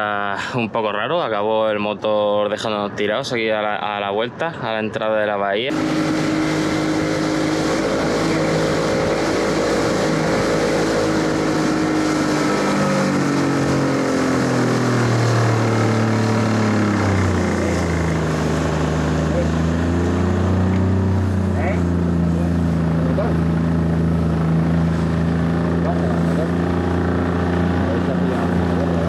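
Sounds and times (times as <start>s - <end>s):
outboard motor running: 5.7s - 29.0s
rush of wind and wake: 5.7s - 29.0s.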